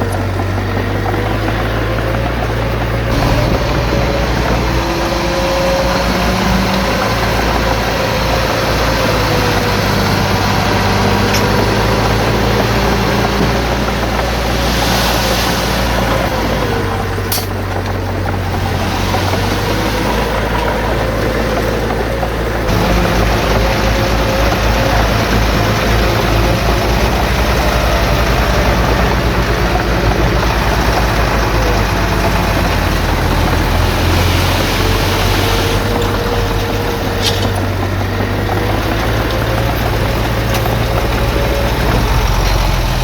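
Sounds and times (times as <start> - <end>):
diesel engine rumbling: 0.0 - 43.0.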